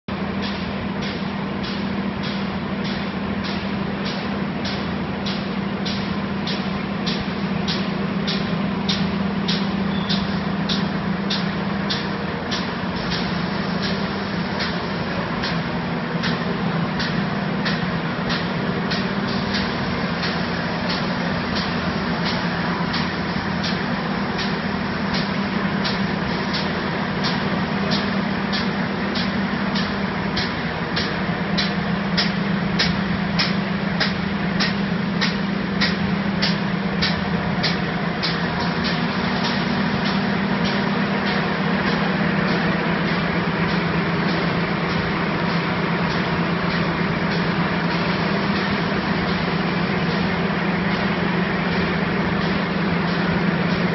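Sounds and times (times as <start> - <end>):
machine mechanical hum: 0.1 - 53.9.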